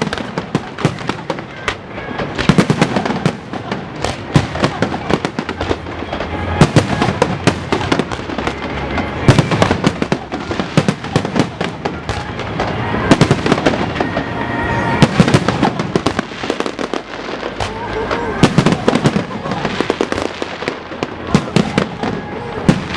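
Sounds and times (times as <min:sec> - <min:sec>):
fireworks bangs and crackles: 0:00.0 - 0:22.9.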